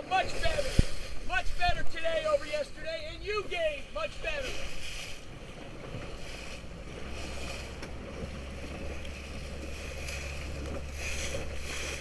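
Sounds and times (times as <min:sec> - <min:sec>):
boat engine low rumble: 0:00.0 - 0:12.0
water noise: 0:00.0 - 0:12.0
wind: 0:00.0 - 0:12.0.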